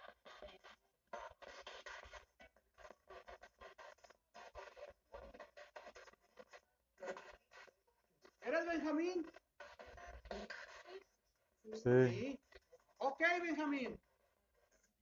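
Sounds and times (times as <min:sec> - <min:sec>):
radio static bursts: 0:00.0 - 0:07.7, 0:08.3 - 0:11.1, 0:11.8 - 0:13.9.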